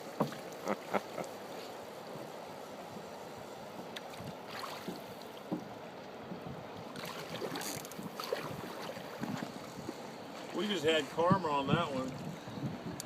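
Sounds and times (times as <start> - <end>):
water rushing: 0.0 - 12.6
wind: 0.0 - 13.0.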